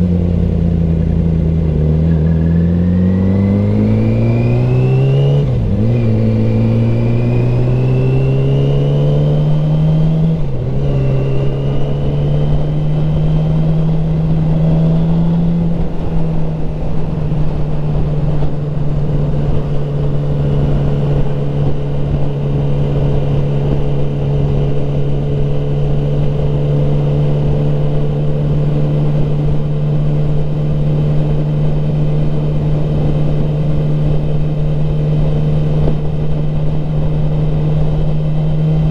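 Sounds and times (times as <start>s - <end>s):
motorcycle engine accelerating: 0.0s - 38.9s
wind rush: 0.0s - 38.9s.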